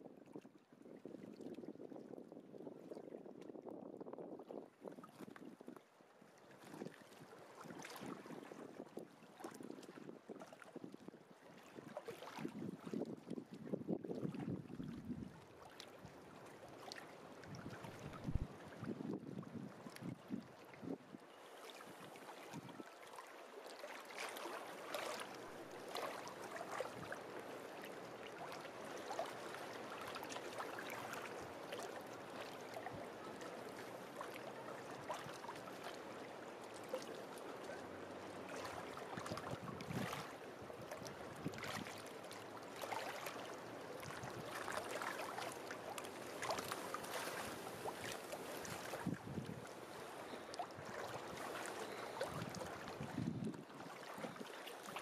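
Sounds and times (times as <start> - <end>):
small waves lapping at shore: 0.1 - 55.0.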